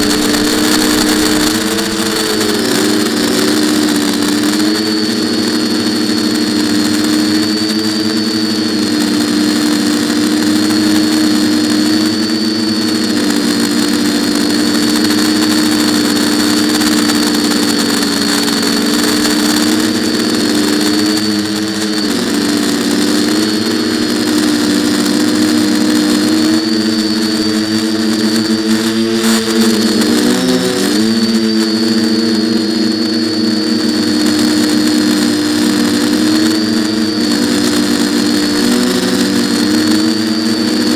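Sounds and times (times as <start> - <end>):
quadcopter propellers buzzing: 0.0 - 40.9.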